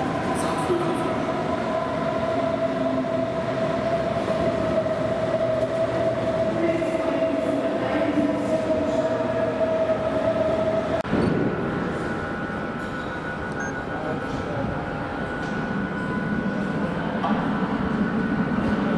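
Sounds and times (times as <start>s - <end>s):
steady train whine: 0.0s - 18.9s
train wheels rumbling on rails: 0.0s - 18.9s.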